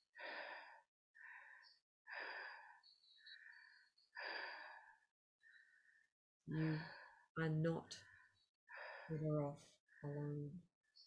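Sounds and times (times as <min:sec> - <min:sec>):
woman breathing heavily: 0:00.0 - 0:07.4, 0:08.0 - 0:10.4.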